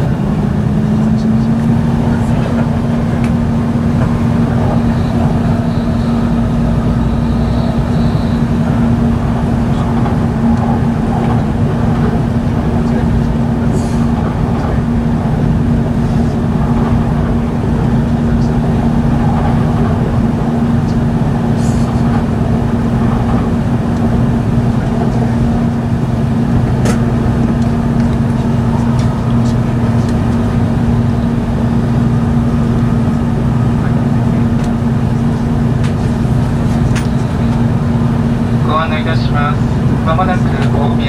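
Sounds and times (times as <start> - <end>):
train cabin rumble: 0.0 - 41.0.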